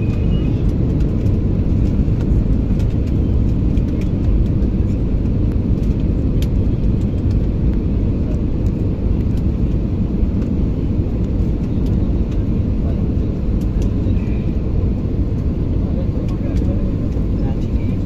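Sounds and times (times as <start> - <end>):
jet engines low rumble: 0.0 - 18.0.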